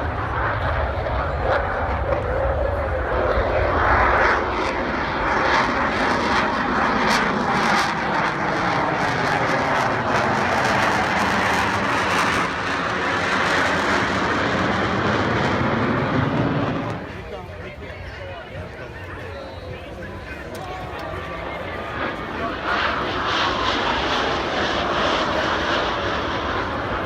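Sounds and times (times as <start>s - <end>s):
jet engine noise: 0.0s - 27.0s.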